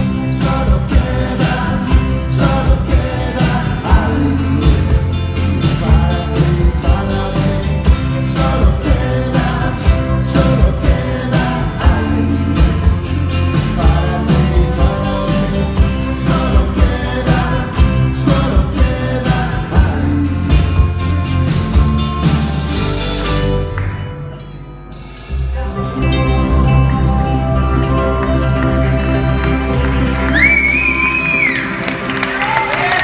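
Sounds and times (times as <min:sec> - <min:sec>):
live band playing pop song: 0:00.0 - 0:33.0.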